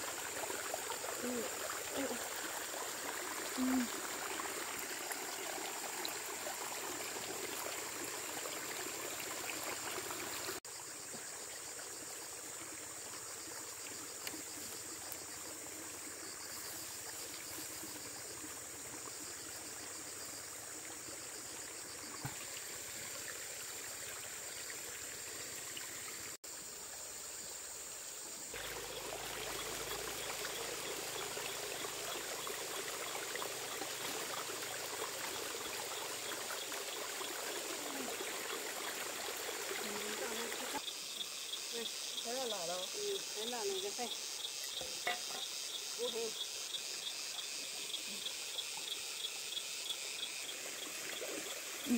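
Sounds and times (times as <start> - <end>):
running water: 0.0 - 51.9.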